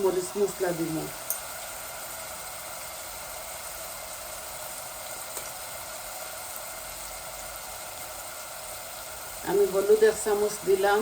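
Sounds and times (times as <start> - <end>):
onions frying in oil: 0.0 - 11.0.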